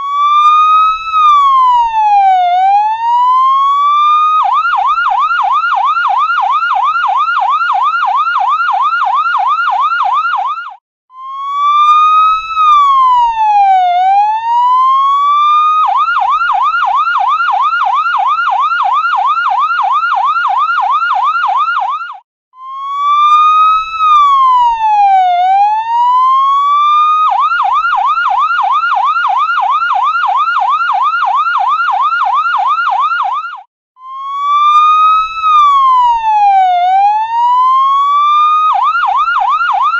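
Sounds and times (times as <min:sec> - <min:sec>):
ambulance siren yelp and wail: 0:00.0 - 0:39.9.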